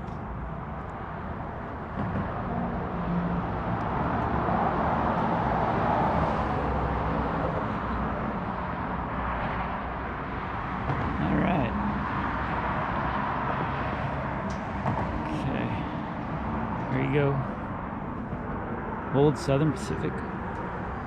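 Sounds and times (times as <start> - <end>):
road vehicle passing by: 0.0 - 21.0.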